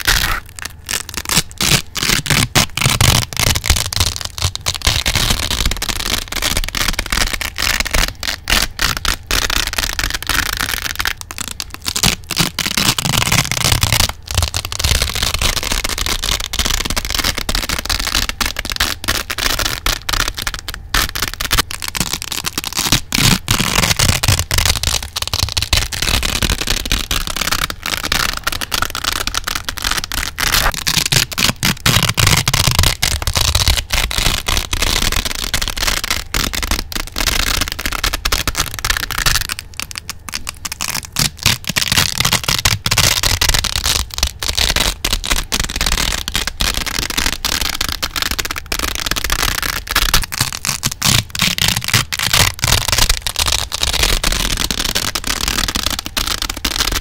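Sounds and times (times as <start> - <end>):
velcro strips being ripped: 0.0 - 57.0.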